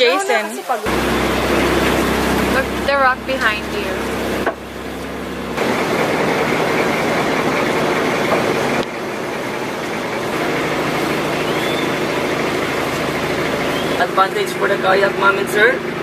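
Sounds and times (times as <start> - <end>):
rush of water noise: 0.0 - 16.0
boat engine running: 0.9 - 16.0.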